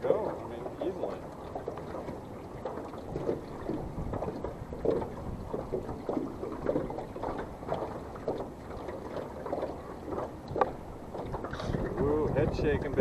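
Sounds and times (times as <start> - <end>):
water washing against a hull: 0.0 - 13.0
wind on the microphone: 0.0 - 13.0.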